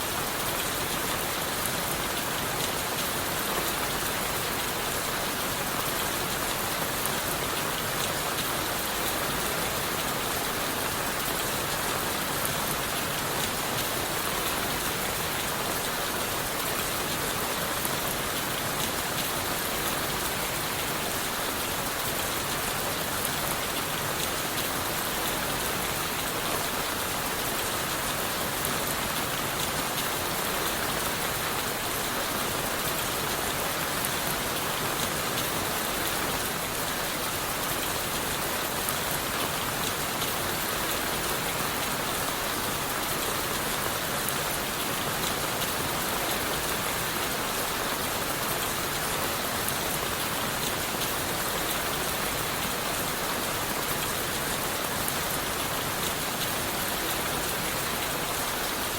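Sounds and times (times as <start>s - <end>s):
rain falling on leaves: 0.0s - 58.9s.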